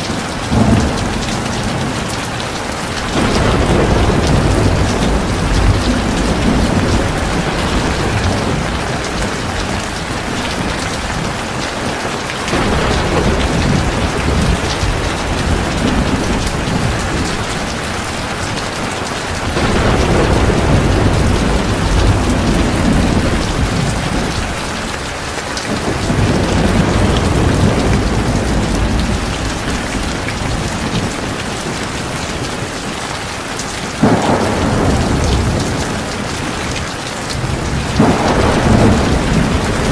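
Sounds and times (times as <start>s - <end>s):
heavy rain pouring: 0.0s - 39.9s
low rolling thunder: 0.1s - 33.0s, 33.9s - 39.9s.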